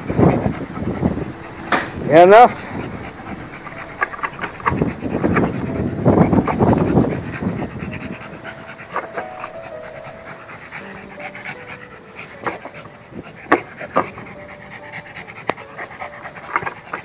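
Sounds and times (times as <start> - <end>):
dog panting rapidly: 0.0 - 17.0.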